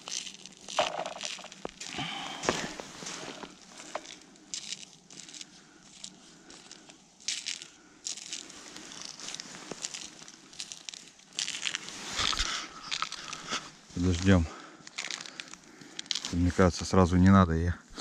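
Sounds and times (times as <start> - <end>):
crinkly rustling and crunching: 0.0 - 17.3.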